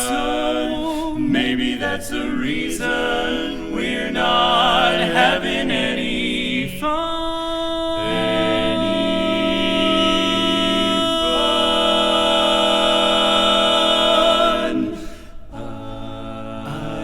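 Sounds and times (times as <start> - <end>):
vocal quartet singing chords: 0.0 - 17.0.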